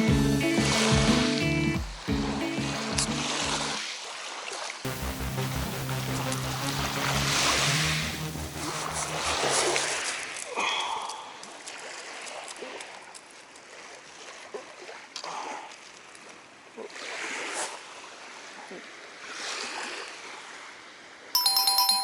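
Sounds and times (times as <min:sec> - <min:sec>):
water splashing and lapping: 0:00.4 - 0:21.3.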